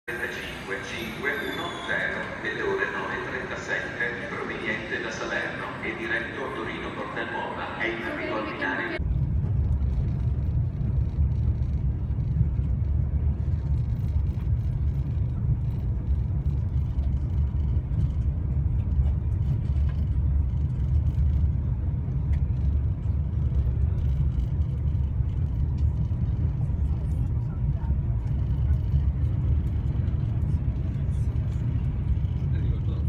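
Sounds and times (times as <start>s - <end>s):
train rumbling at speed: 0.1s - 33.0s.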